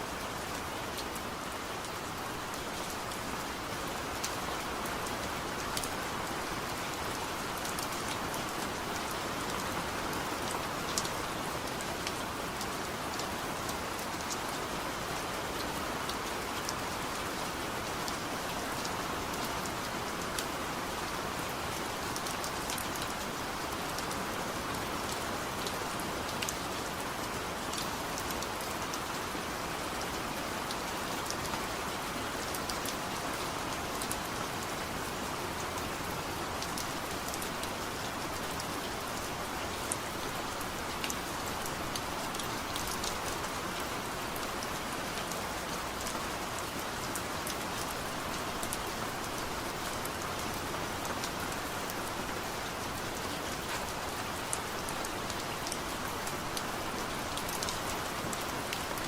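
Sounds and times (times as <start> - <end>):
heavy rain falling: 0.0 - 59.0
raindrops ticking on a surface: 0.4 - 59.0.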